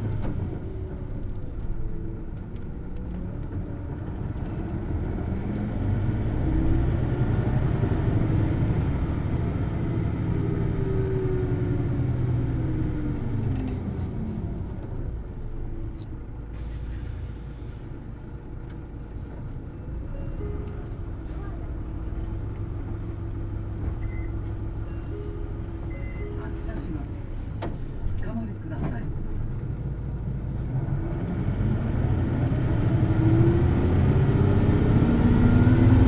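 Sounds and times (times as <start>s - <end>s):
bus diesel engine revving: 3.6s - 18.6s, 20.6s - 36.0s.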